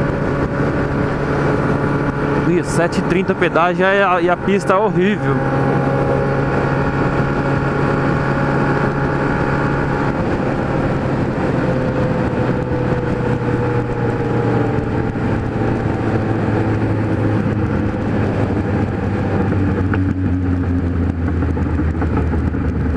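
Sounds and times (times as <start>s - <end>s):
motorcycle engine: 0.0s - 22.9s
wind noise: 0.0s - 22.9s.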